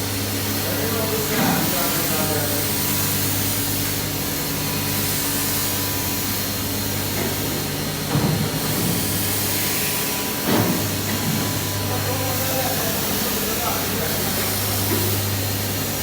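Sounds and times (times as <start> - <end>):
machinery humming and hissing: 0.0 - 16.0.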